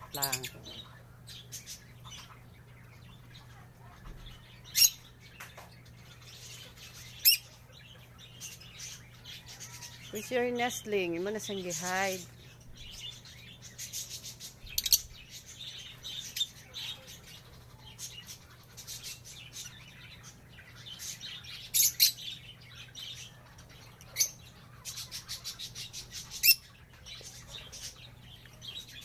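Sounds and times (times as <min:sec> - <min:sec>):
lovebirds chirping: 0:00.0 - 0:29.0.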